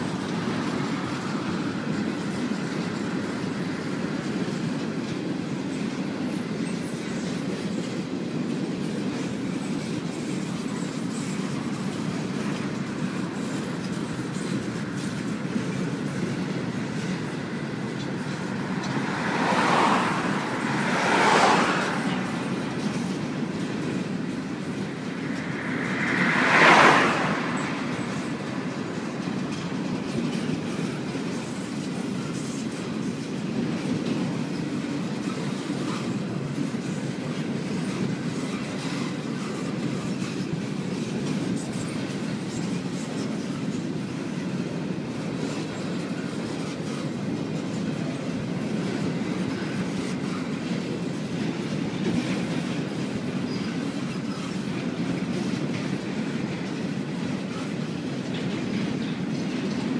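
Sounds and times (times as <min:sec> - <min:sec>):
train cars rumbling past: 0:00.0 - 0:59.9
wheels clicking on rails: 0:00.0 - 0:59.9.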